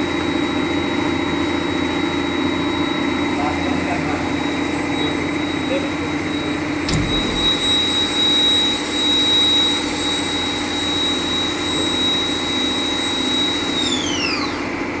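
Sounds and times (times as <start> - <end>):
machining centre whining: 0.0 - 15.0.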